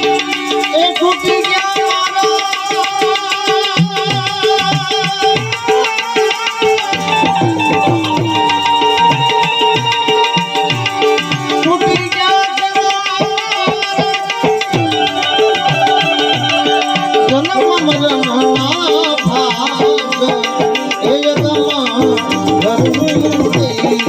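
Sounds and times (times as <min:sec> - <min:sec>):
sustained wavering melody: 0:00.0 - 0:24.0
tabla playing a rhythm: 0:00.0 - 0:24.0.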